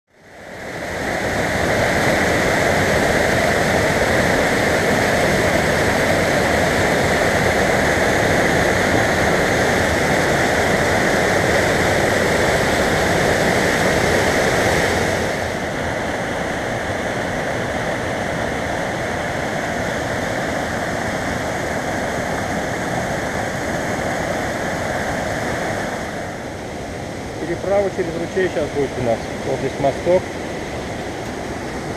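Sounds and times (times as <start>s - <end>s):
stream rushing over boulders: 0.1s - 31.9s.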